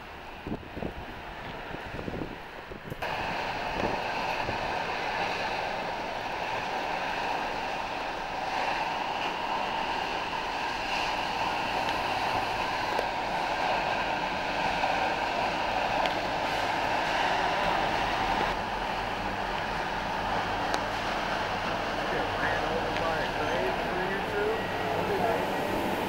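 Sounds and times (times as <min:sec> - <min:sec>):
constant rushing noise: 0:00.0 - 0:26.0
steady whining tones: 0:00.0 - 0:26.0.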